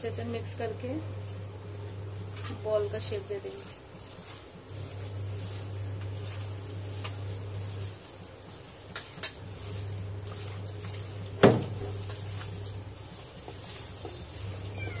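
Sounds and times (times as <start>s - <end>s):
hands mixing minced meat: 0.0s - 15.0s
steady low hum: 0.0s - 15.0s.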